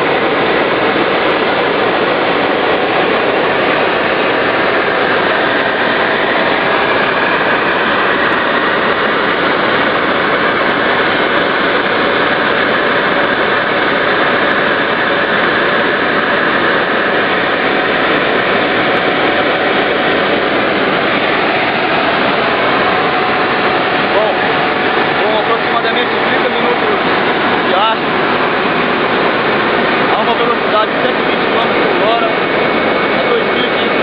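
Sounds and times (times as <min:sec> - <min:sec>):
helicopter engine and rotor noise: 0:00.0 - 0:34.0.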